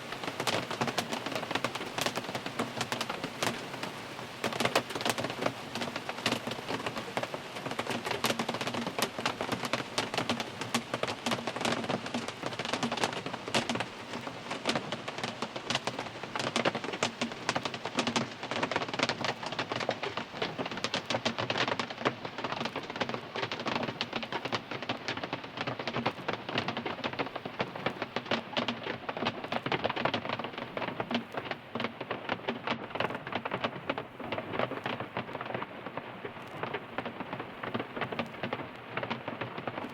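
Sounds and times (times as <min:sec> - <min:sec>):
rain pattering on car roof: 0:00.0 - 0:39.9.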